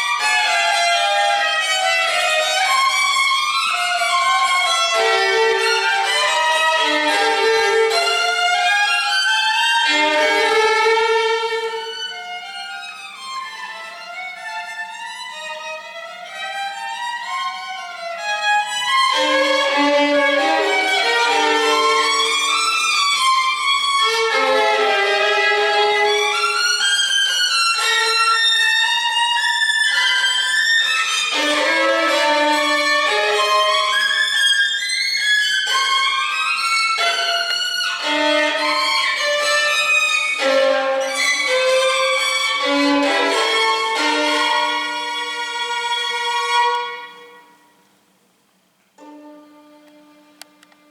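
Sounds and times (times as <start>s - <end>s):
violin melody: 0.0s - 47.9s, 49.0s - 50.9s.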